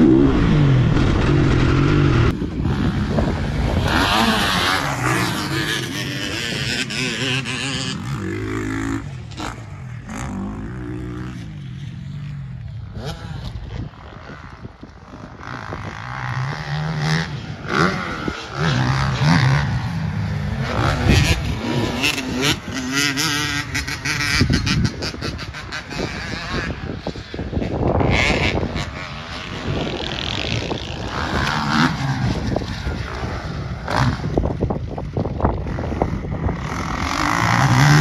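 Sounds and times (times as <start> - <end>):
motocross bike engine revving: 0.0 - 14.5, 15.2 - 38.0.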